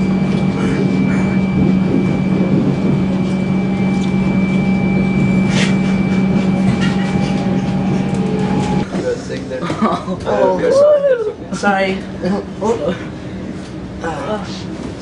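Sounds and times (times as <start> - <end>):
faint constant whine: 0.0 - 15.0
train rumble from inside carriage: 0.0 - 15.0.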